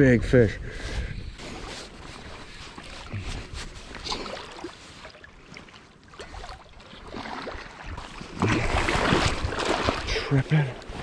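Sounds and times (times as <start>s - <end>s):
creek water running: 1.4s - 11.0s
water splashing and churning: 1.4s - 11.0s.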